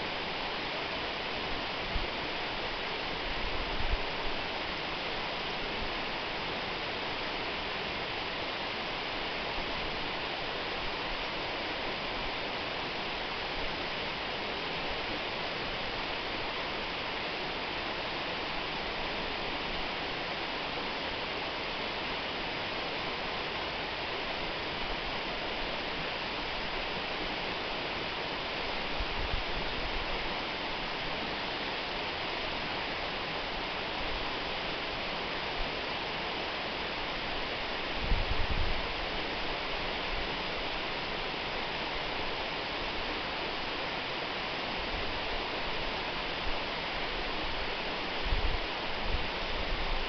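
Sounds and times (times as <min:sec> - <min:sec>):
waterfall roaring: 0:00.0 - 0:50.0.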